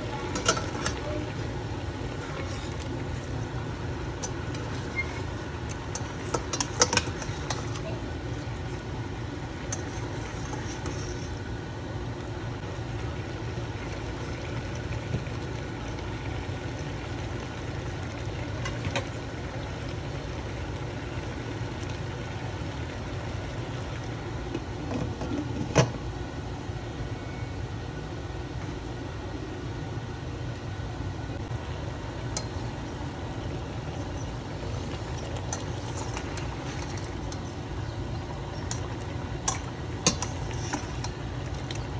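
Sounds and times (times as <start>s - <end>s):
meat cooking in a pot: 0.0s - 41.9s.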